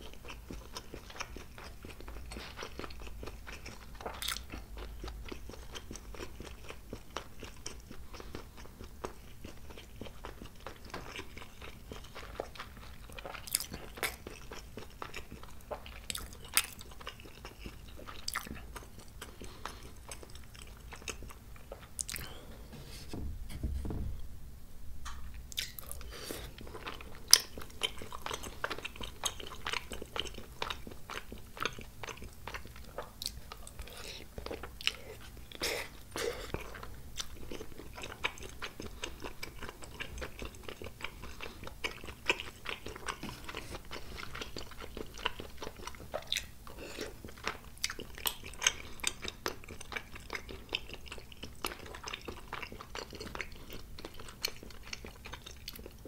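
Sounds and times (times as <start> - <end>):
person chewing food: 0.0 - 23.2, 25.0 - 56.0.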